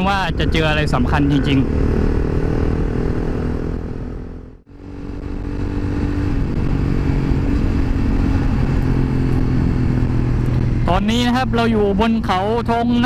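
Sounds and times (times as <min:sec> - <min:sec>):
motorcycle engine cruising: 0:00.0 - 0:13.0
road and wind noise: 0:00.0 - 0:13.0.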